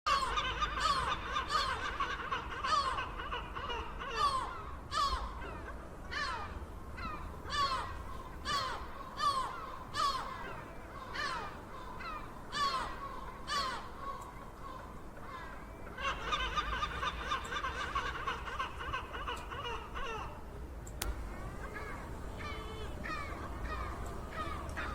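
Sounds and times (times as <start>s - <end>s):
seagulls calling: 0.1s - 24.9s.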